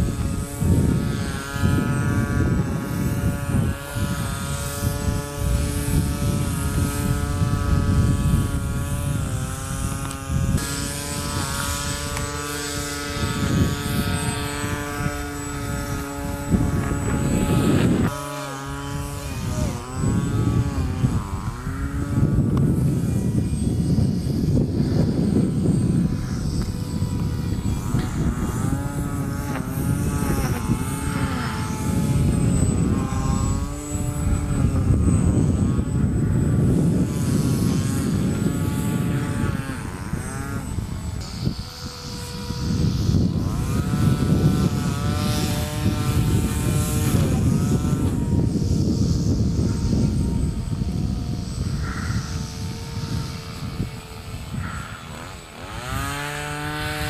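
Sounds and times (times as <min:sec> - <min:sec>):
model jet propeller whine: 0:00.0 - 0:57.0
wind rumble on microphone: 0:00.0 - 0:57.0.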